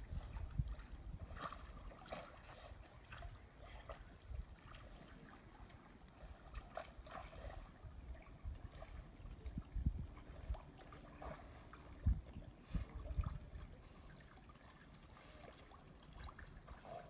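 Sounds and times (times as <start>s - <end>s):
water trickling and lapping: 0.0s - 17.0s.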